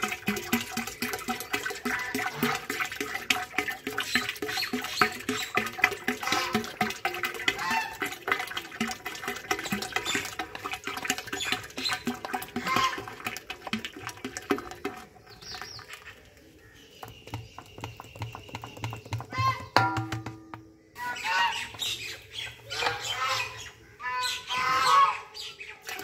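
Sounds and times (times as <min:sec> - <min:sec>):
liquid pouring into pot: 0:00.0 - 0:21.0
liquid drips: 0:00.0 - 0:23.8, 0:25.8 - 0:26.0.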